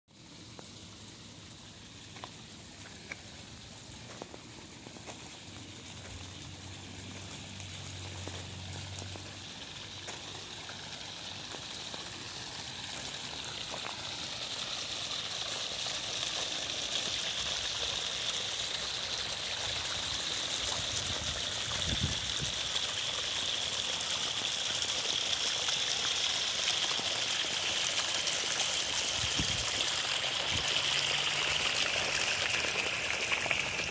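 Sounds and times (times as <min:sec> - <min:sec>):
water splashing down rocks: 0:00.2 - 0:33.9.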